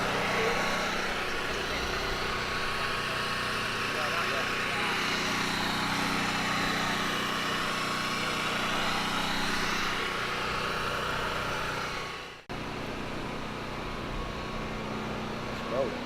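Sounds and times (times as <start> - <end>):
engine-like humming: 0.0 - 16.0.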